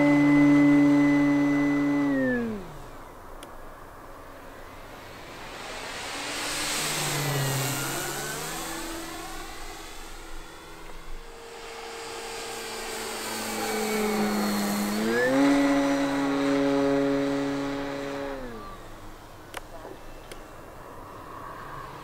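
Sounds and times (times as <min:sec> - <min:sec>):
model plane motor and propeller whine: 0:00.0 - 0:22.0.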